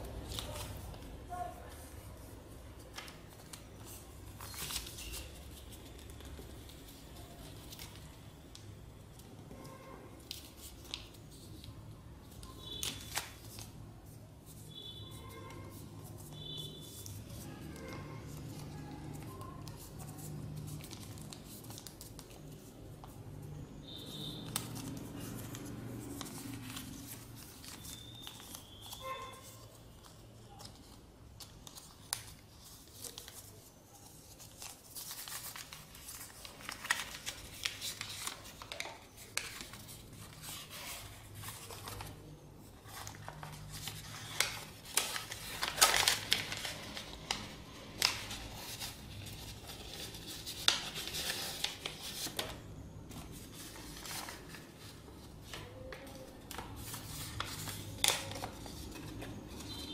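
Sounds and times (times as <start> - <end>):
paper rustling and crackling: 0.0 - 59.9.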